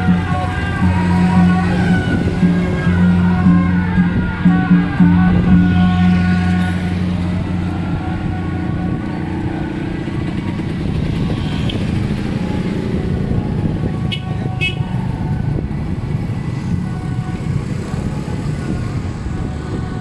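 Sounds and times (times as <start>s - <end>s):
vehicle engines rumbling: 0.0s - 20.0s.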